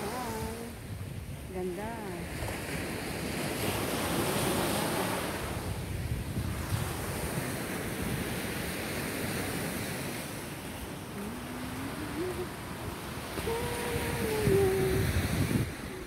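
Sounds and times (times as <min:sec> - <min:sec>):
surf washing on sandy beach: 0:00.0 - 0:16.0
wind buffeting microphone: 0:00.0 - 0:16.0.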